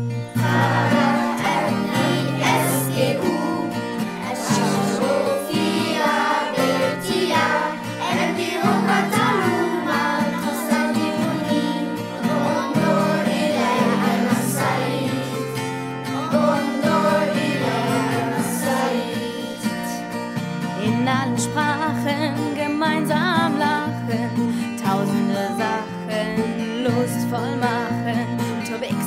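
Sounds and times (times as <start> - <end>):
children's song singing with instruments: 0.3 - 20.0, 20.8 - 29.0.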